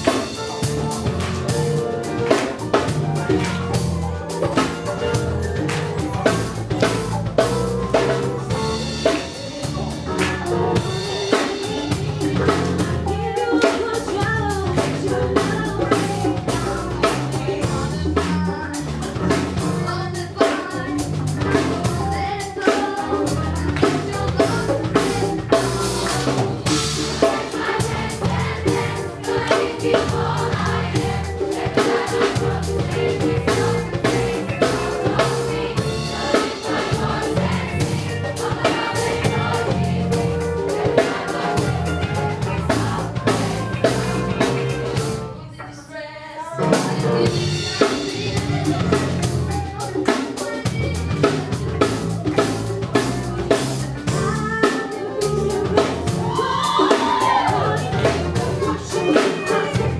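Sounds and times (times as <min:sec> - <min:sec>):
bass line: 0:00.0 - 0:45.4, 0:46.6 - 0:50.0, 0:50.6 - 0:59.9
drum kit beat: 0:00.0 - 0:45.4, 0:46.6 - 0:59.9
voices singing: 0:00.0 - 0:59.9.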